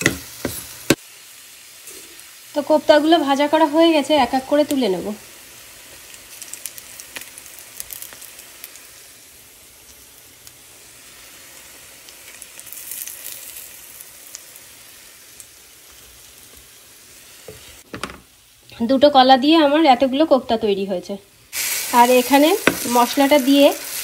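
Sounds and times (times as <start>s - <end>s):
hot oil sizzling: 0.0s - 24.0s.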